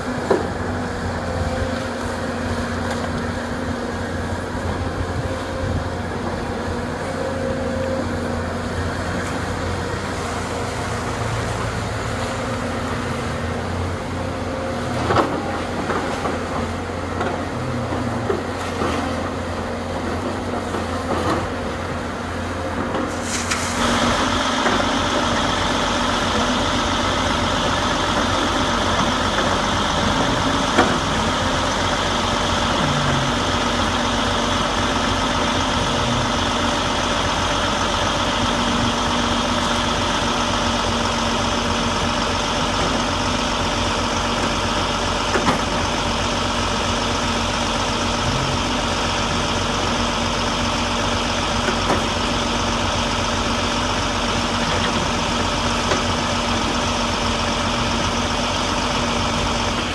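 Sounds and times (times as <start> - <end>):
diesel machinery running: 0.0 - 59.9.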